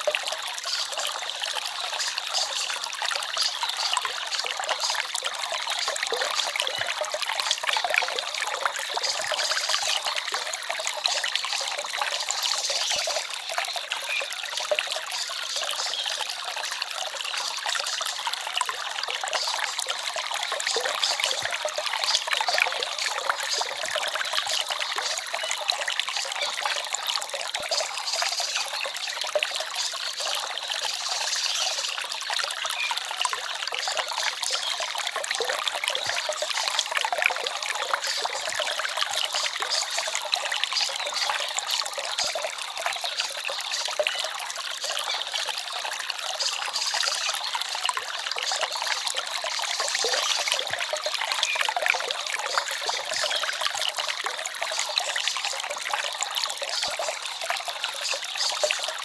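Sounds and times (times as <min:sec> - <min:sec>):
forest stream trickling over stones: 0:00.0 - 0:59.0.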